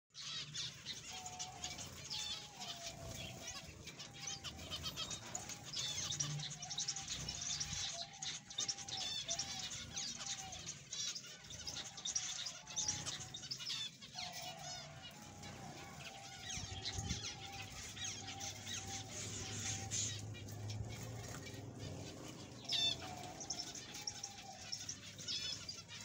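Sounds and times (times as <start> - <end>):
finches chirping: 0.2 - 26.0.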